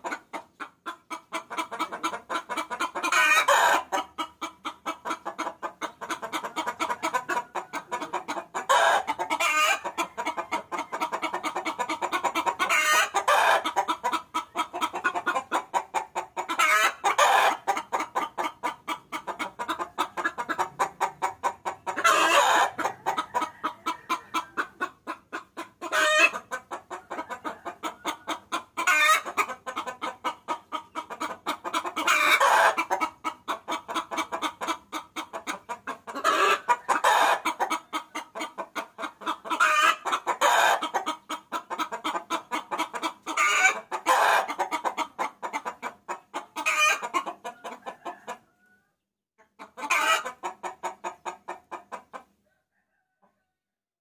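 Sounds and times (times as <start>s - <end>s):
hen cackling: 0.0s - 48.8s, 49.4s - 52.5s
hen clucking: 0.0s - 53.5s.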